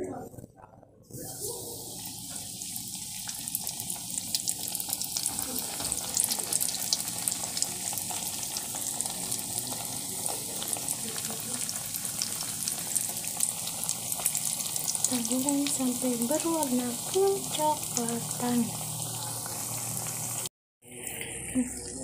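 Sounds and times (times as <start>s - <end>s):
food sizzling in hot oil: 1.2s - 20.5s.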